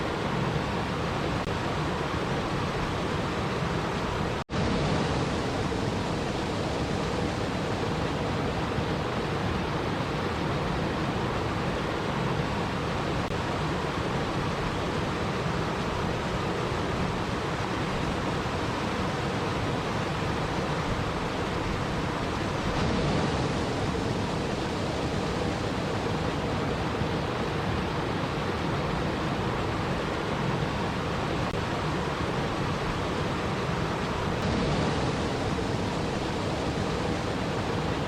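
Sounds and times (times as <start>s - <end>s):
rushing water: 0.0s - 38.0s.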